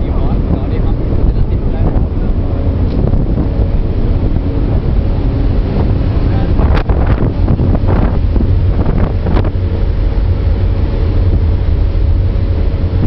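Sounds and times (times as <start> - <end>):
loud low rumble: 0.0 - 13.0
rush of churning wake: 0.0 - 13.0
wind buffeting microphone: 0.0 - 13.0.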